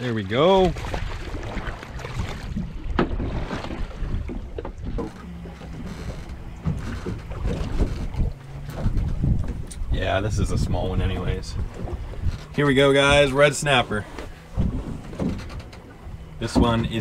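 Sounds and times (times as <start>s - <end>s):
wind rumbling on microphone: 0.6s - 17.0s.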